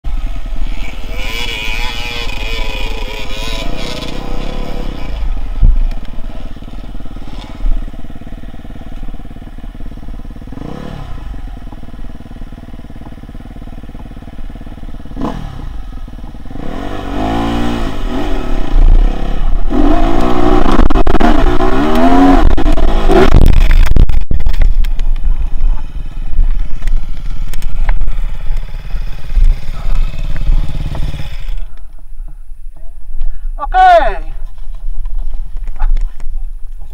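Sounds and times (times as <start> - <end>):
dirt bike engine revving: 0.1 - 31.7.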